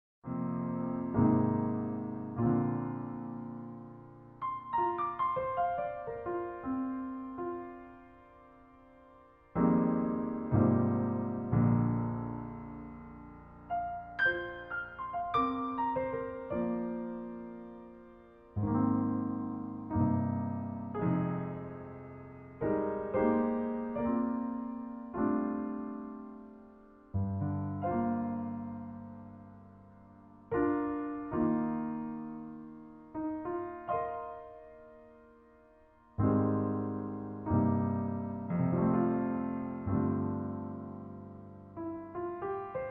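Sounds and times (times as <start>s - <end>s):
soft piano music: 0.2s - 42.9s.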